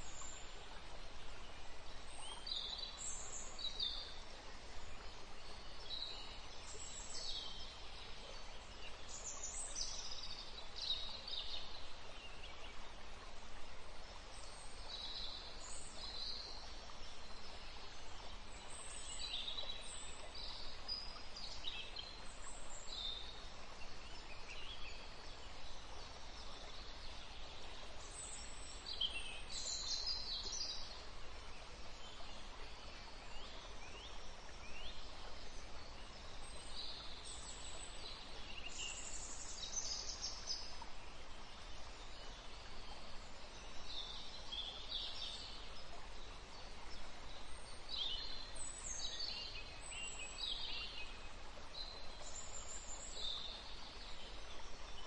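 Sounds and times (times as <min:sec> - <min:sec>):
steady low background noise: 0:00.0 - 0:55.0.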